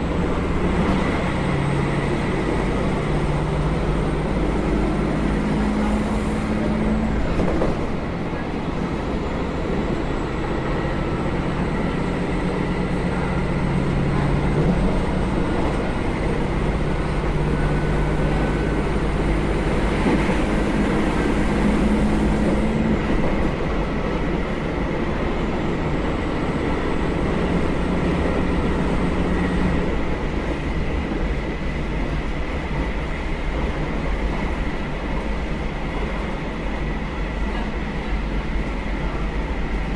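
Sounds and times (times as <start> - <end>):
diesel railcar engine: 0.0 - 39.9
rail and wheel noise: 0.0 - 39.9.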